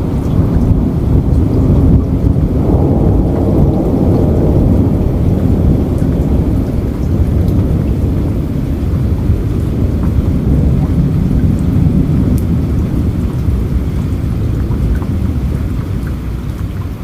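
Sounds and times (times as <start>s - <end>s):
deep low rumble: 0.0s - 17.0s
steady rain: 0.0s - 17.0s.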